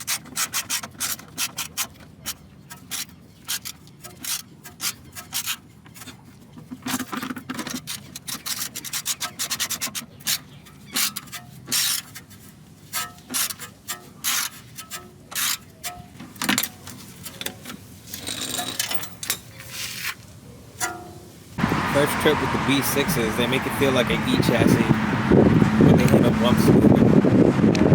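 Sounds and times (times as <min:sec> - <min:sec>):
hand tools clicking and scraping: 0:00.0 - 0:24.9.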